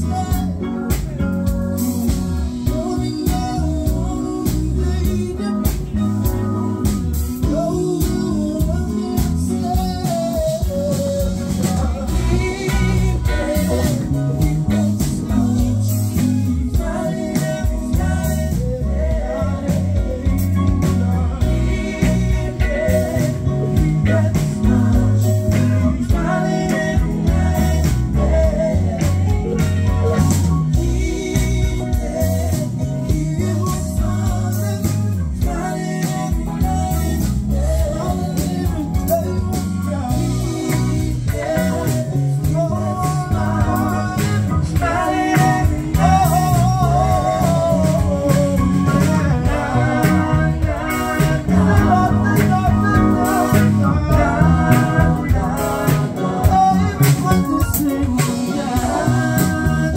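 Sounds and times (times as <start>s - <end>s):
drum kit: 0.0s - 59.9s
electric guitar: 0.0s - 59.9s
keyboard: 0.0s - 59.9s
lead melody: 0.0s - 59.9s.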